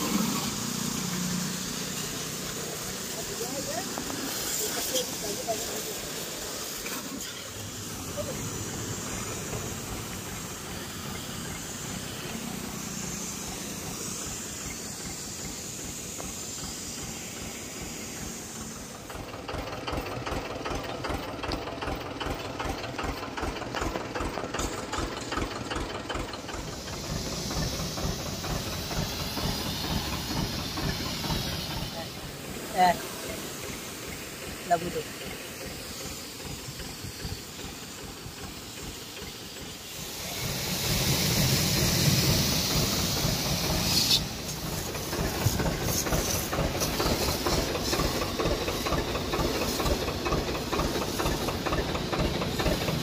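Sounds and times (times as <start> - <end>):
fast mechanical pulsing: 0.0 - 53.0
pressure washer jet spraying: 0.0 - 53.0.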